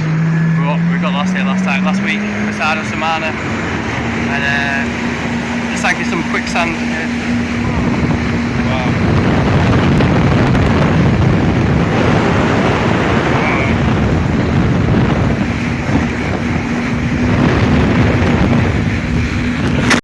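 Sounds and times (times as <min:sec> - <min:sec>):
boat engine drone: 0:00.0 - 0:20.0
wind buffeting microphone: 0:00.0 - 0:20.0.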